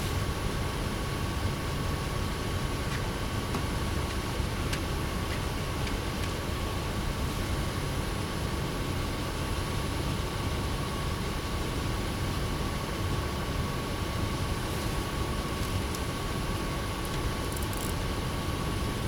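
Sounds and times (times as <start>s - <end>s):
background rumble and hiss: 0.0s - 19.0s.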